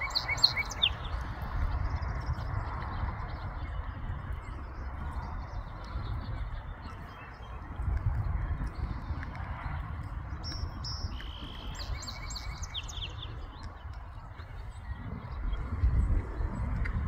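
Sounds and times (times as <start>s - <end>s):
small songbird chirping: 0.0s - 16.2s
low rumbling microphone noise: 0.0s - 17.0s.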